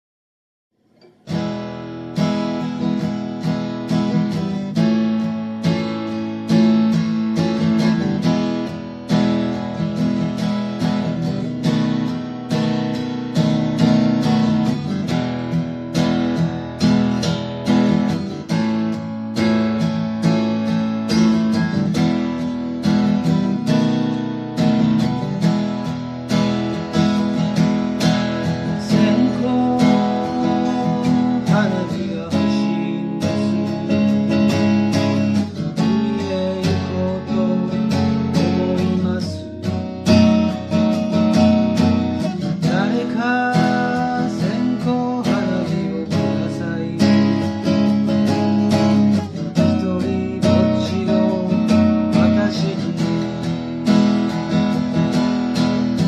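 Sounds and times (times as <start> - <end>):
acoustic guitar strumming: 0.8 - 56.0
bending guitar melody: 0.8 - 56.0.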